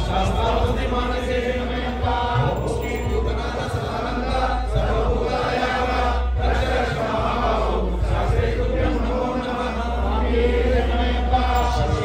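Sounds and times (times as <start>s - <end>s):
group chanting in chorus: 0.0s - 12.0s.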